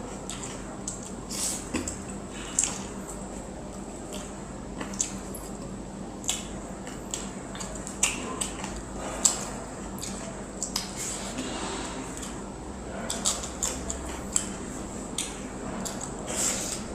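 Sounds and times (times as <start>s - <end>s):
faint steady hum: 0.0s - 16.9s
wet chewing with smacks: 0.1s - 12.4s, 13.1s - 16.9s.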